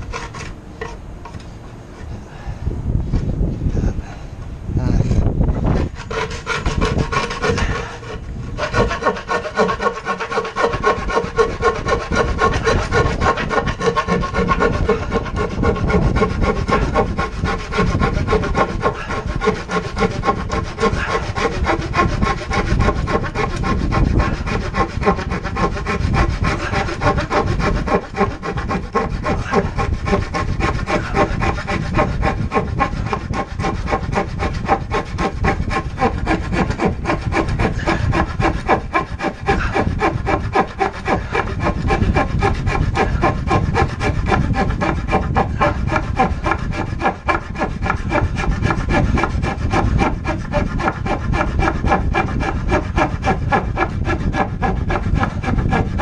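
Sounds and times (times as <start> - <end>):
handsaw cutting wood: 0.0 - 0.5, 5.6 - 56.0.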